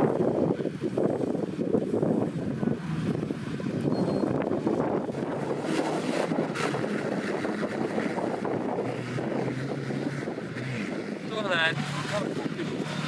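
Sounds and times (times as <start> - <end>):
engine running low hum: 0.0 - 13.0
wind rumble on microphone: 0.0 - 13.0.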